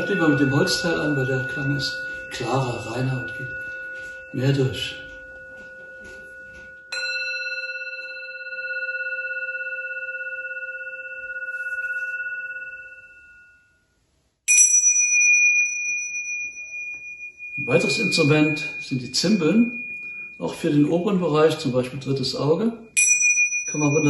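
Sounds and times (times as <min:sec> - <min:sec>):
singing bowl ringing: 0:00.0 - 0:24.0
small cymbals ringing: 0:00.0 - 0:24.0.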